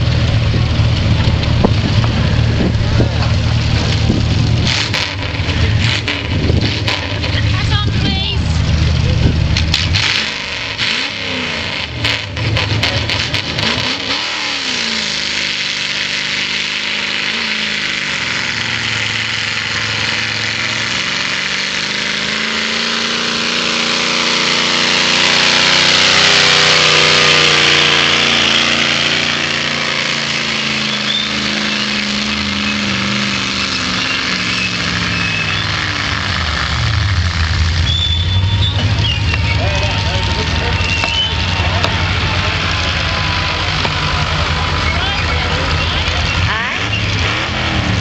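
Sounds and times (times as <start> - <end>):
truck engine running under load: 0.0 - 48.0.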